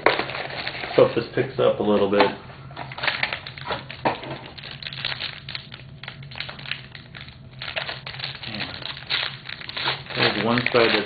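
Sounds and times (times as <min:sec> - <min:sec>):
wrapper crinkling and tearing: 0:00.0 - 0:01.2, 0:02.8 - 0:11.0.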